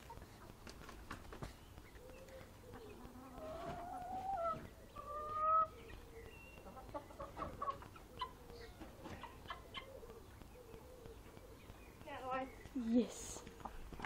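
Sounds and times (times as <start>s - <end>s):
chickens calling and clucking: 0.0s - 14.0s.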